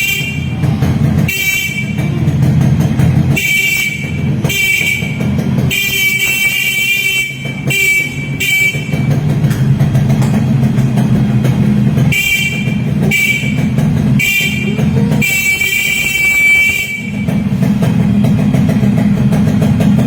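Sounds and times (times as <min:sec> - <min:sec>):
motorcycle horn honks: 0:00.0 - 0:10.7, 0:11.4 - 0:18.6
motorcycle engine running: 0:00.0 - 0:20.0.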